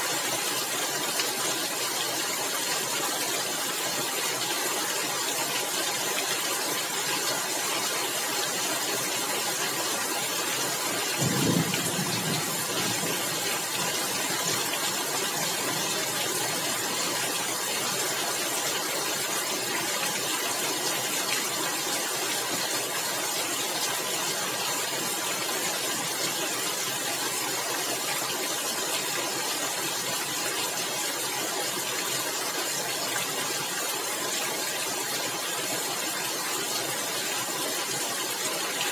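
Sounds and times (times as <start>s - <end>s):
rain on roof tiles: 0.0s - 38.9s.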